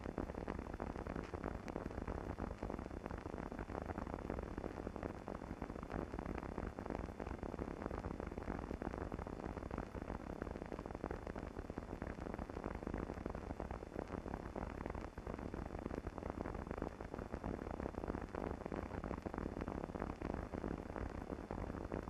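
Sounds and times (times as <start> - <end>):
old film soundtrack hiss and crackle: 0.0 - 22.0.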